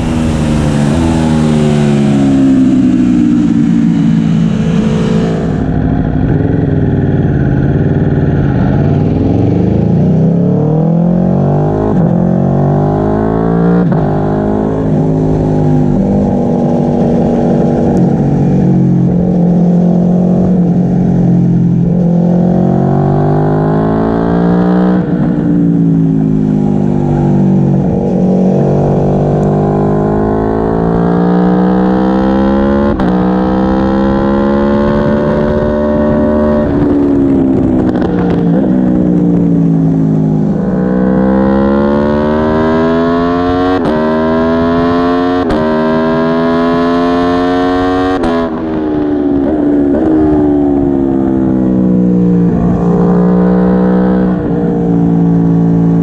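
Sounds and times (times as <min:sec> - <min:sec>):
motorcycle engine accelerating: 0:00.0 - 0:56.0
wind rushing over microphone: 0:00.0 - 0:56.0.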